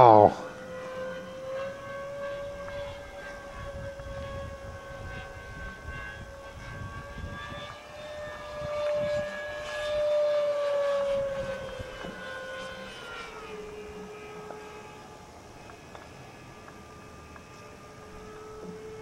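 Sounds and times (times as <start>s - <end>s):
model jet fan whining: 0.0s - 19.0s.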